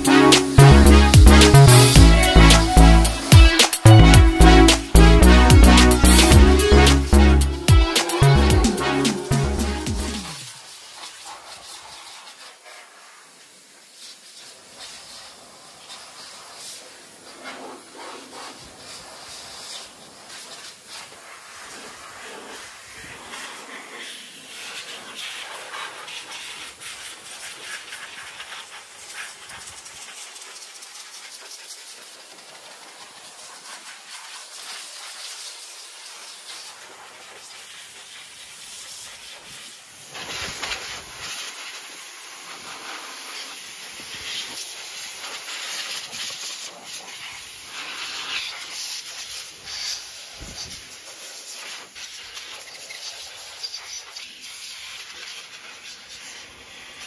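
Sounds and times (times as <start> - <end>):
air hose hissing: 0.0 - 57.0.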